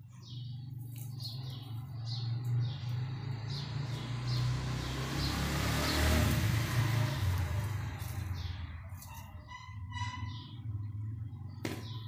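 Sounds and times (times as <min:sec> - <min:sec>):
small birds chirping: 0:00.0 - 0:12.0
vehicle engine humming: 0:00.0 - 0:12.0.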